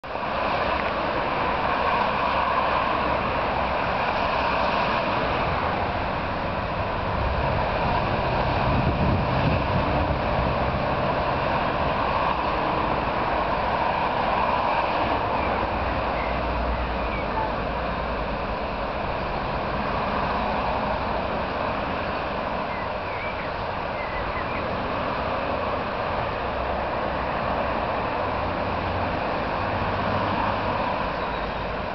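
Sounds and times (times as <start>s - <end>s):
road traffic noise: 0.0s - 31.9s
truck passing low rumble: 0.0s - 31.9s.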